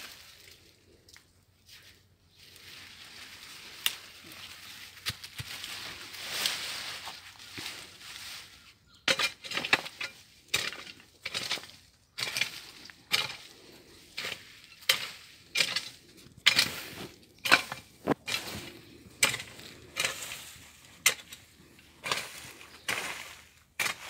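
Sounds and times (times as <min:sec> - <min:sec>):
branches and leaves rustling: 0:00.0 - 0:24.0.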